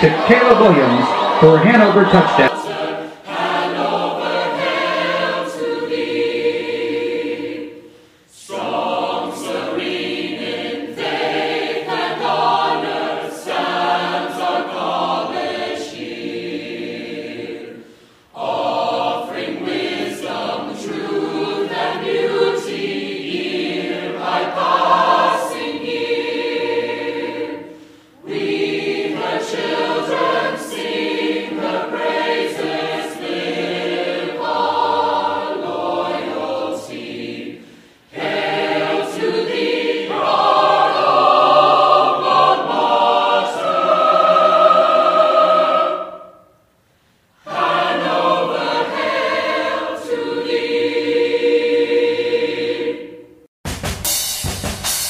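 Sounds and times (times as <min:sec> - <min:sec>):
soundtrack music with choir: 0:00.0 - 0:53.5.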